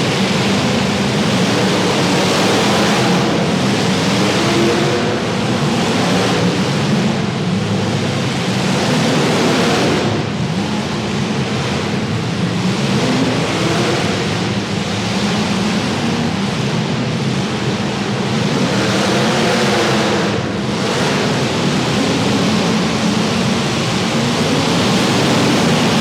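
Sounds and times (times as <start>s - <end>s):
car engines revving together: 0.0s - 26.0s.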